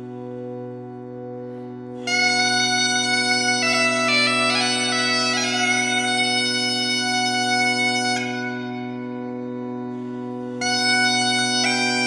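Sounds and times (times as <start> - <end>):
bagpipe chanter melody: 0.0 - 12.0
bagpipe drone: 0.0 - 12.0.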